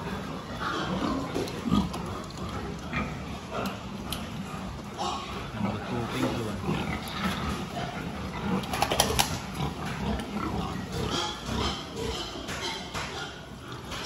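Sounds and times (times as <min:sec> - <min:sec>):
pigs grunting: 0:00.0 - 0:14.0.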